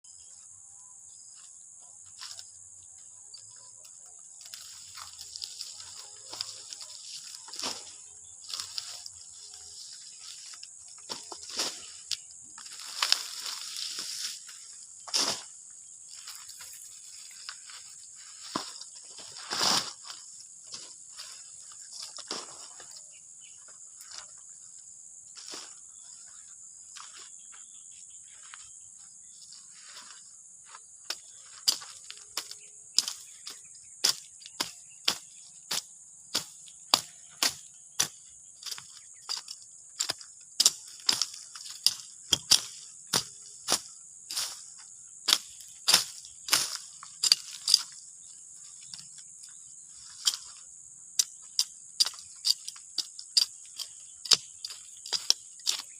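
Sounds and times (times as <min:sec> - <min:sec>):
high-pitched insect drone: 0:00.1 - 0:55.9.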